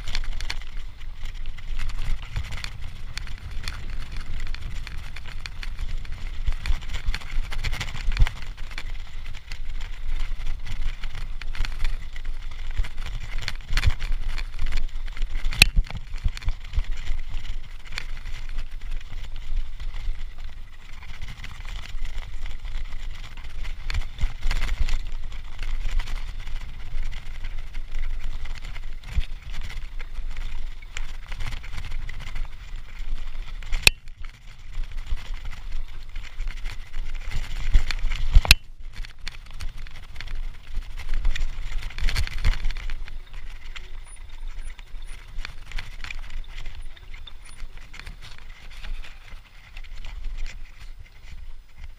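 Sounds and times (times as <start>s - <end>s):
bike rattling over bumps: 0.0s - 51.9s
bike tyre noise on dirt: 0.0s - 51.9s.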